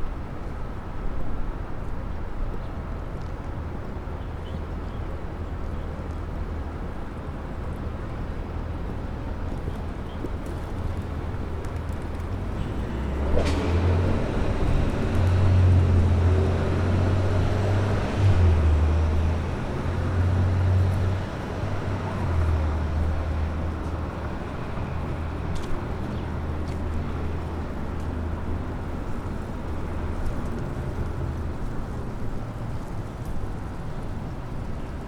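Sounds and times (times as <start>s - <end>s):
passing vehicles rumbling: 0.0s - 35.0s.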